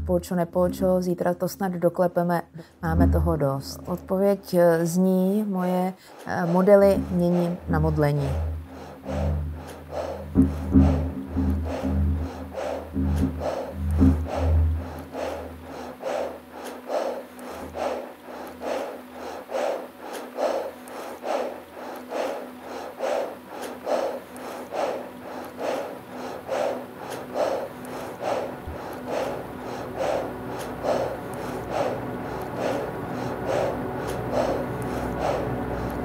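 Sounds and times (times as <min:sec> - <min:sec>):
heavy rhythmic breathing: 0:00.0 - 0:36.0.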